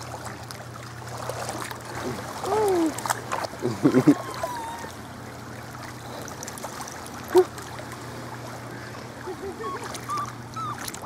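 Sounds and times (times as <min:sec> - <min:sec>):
steady low hum: 0:00.0 - 0:11.0
water trickling and lapping: 0:00.0 - 0:11.0.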